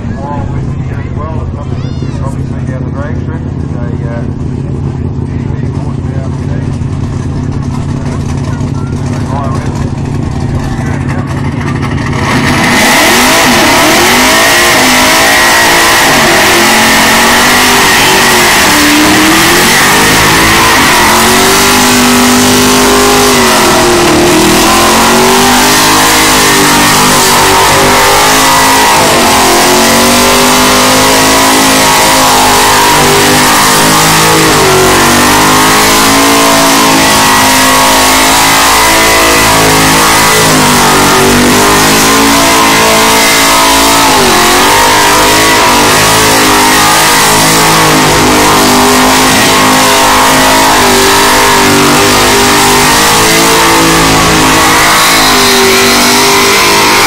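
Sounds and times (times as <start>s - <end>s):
engine revving at high revs: 0.0s - 57.0s
tyres screeching: 6.9s - 57.0s.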